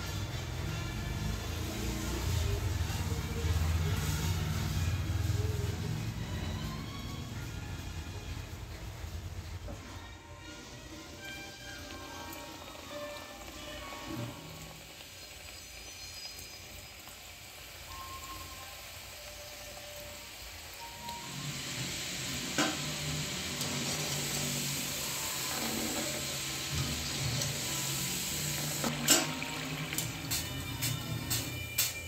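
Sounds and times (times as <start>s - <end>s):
oil bubbling and sizzling: 0.0s - 32.0s.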